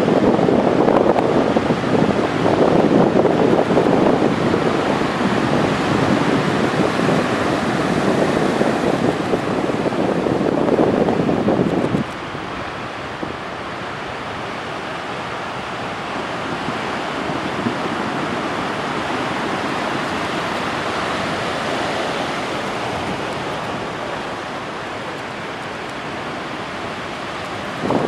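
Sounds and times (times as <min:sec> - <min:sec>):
waves breaking: 0:00.0 - 0:28.0.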